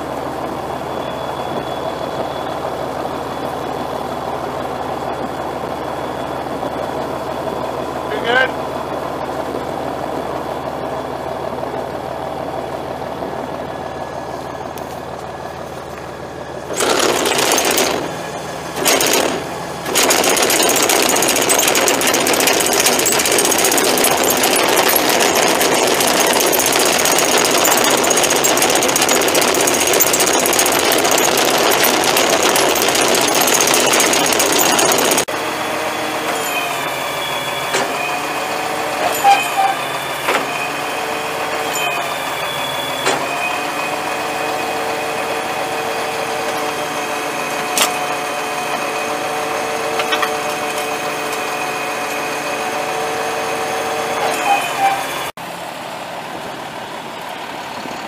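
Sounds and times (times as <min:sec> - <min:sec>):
diesel engine idling: 0:00.0 - 0:53.2
rough mechanical noise: 0:00.0 - 0:55.6.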